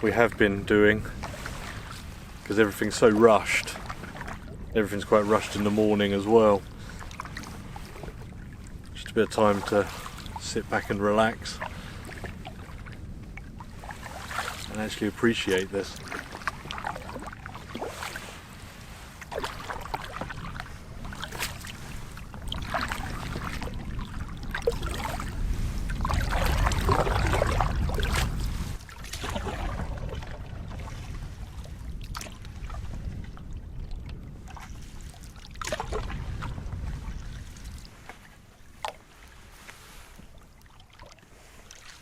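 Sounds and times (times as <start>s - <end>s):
wind rumble on microphone: 0.0s - 40.6s
paddle strokes splashing water: 0.1s - 42.0s.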